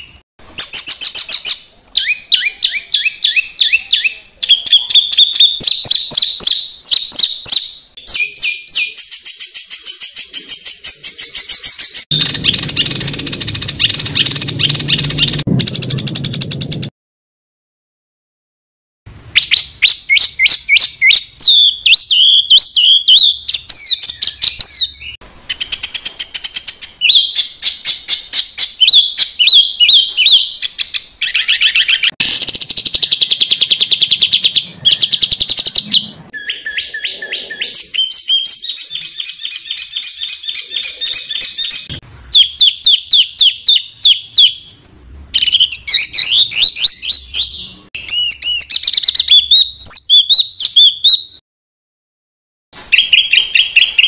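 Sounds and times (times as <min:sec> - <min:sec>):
songbird trills and whistles: 0:00.0 - 0:16.6, 0:19.4 - 0:44.6, 0:45.4 - 0:51.4, 0:52.9 - 0:54.0.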